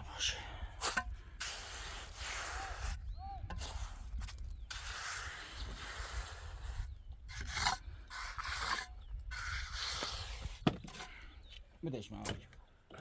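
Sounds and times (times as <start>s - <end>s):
trowel scraping mortar: 0.8s - 11.2s.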